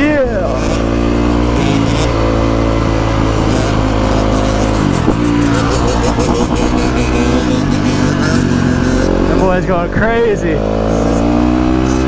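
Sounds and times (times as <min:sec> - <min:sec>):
vehicle engines at high revs: 0:00.0 - 0:12.0.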